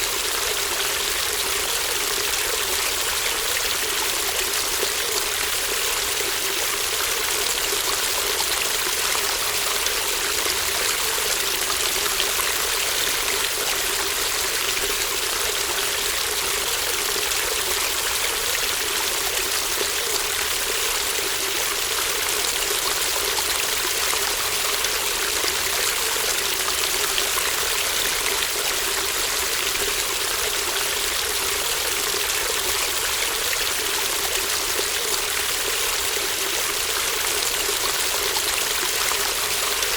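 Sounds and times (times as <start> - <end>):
stream burbling over stones: 0.0 - 39.9.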